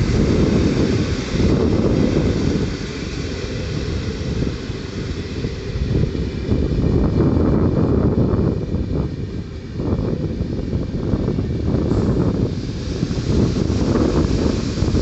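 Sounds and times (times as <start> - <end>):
electric train rumbling: 0.0 - 15.0
faint steady whine: 0.0 - 15.0
wind buffeting microphone: 0.0 - 15.0.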